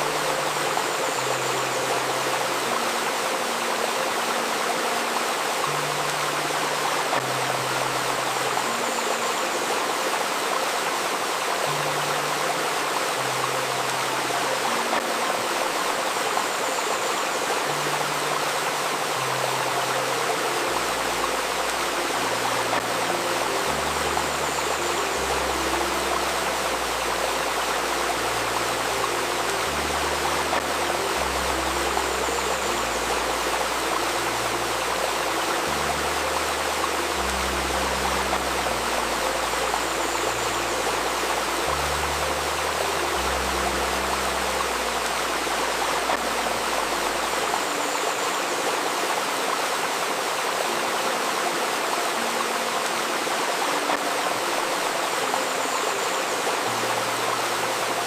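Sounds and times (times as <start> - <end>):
river babbling: 0.0 - 58.0.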